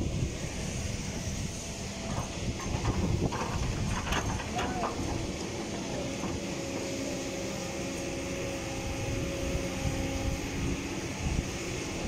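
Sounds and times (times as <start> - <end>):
excavator diesel engine running: 0.0 - 12.0
steady hydraulic whine: 0.0 - 12.0.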